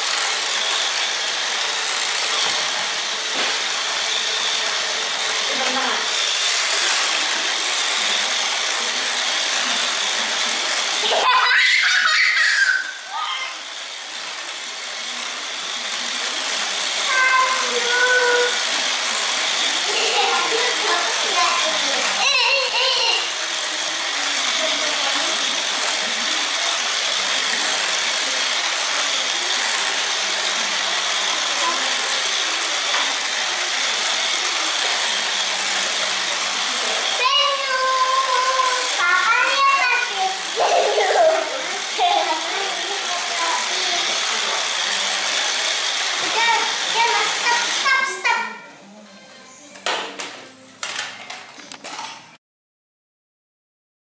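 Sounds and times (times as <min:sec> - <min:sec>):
toy car motor whirring: 0:00.0 - 0:48.7, 0:50.8 - 0:52.4.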